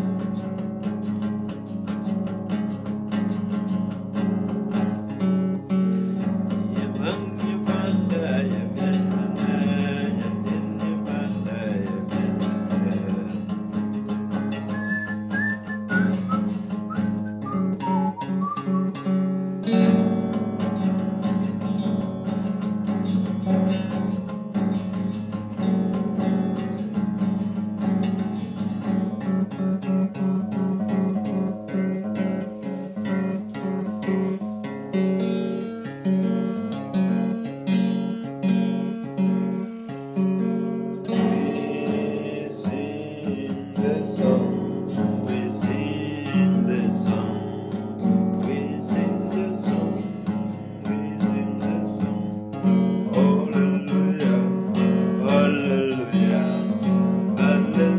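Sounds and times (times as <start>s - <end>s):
acoustic guitar playing: 0.0s - 57.9s.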